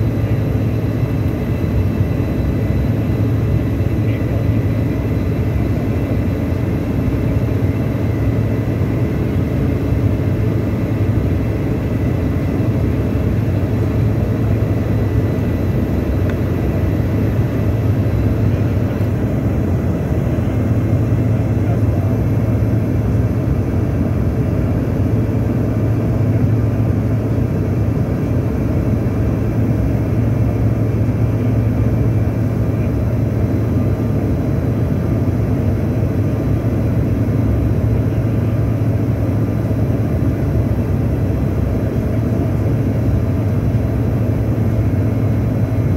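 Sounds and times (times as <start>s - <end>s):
jet cabin noise: 0.0s - 45.9s.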